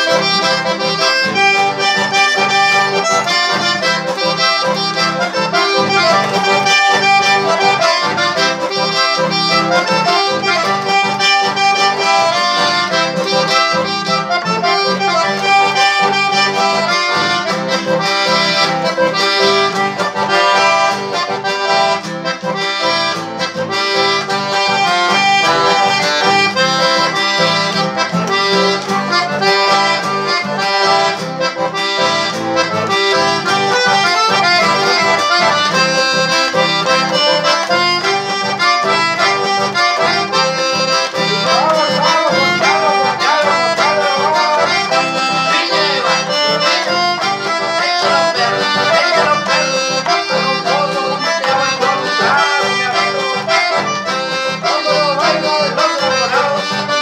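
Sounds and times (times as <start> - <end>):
button accordion melody: 0.0 - 57.0
strummed acoustic guitar: 0.0 - 57.0.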